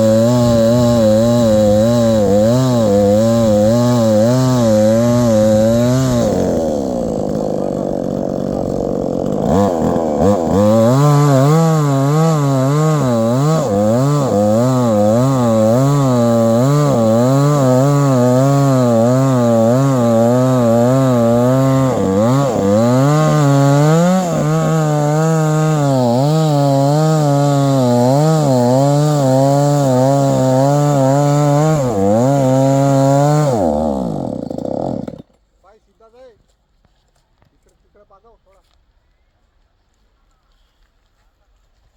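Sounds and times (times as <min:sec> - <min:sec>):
chainsaw cutting wood: 0:00.0 - 0:35.4.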